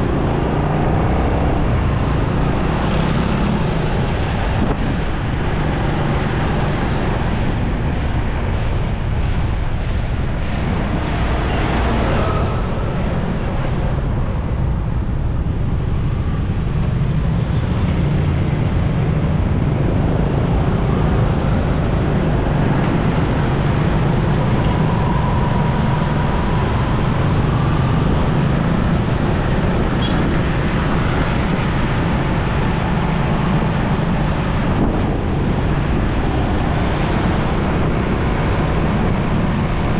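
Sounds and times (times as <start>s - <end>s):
road traffic hum: 0.0s - 39.9s.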